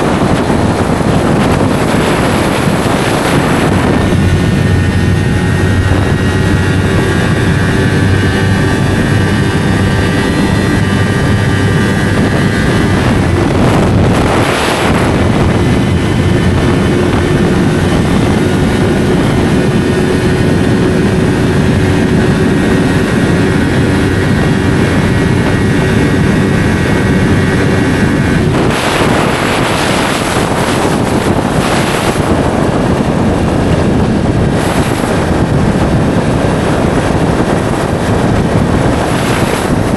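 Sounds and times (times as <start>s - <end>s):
motorcycle engine cruising: 0.0s - 39.9s
wind noise rush: 0.0s - 39.9s.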